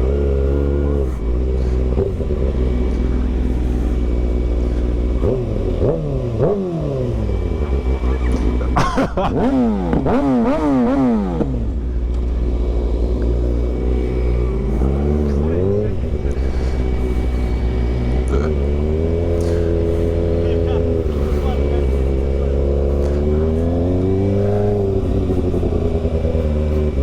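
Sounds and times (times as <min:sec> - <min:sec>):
vehicle engine idling and revving: 0:00.0 - 0:27.0.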